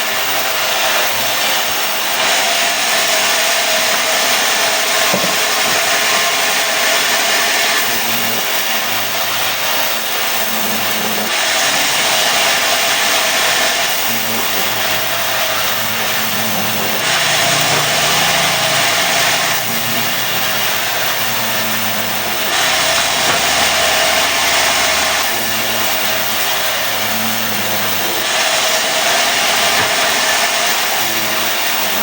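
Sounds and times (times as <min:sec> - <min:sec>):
saw cutting wood: 0:00.0 - 0:32.0.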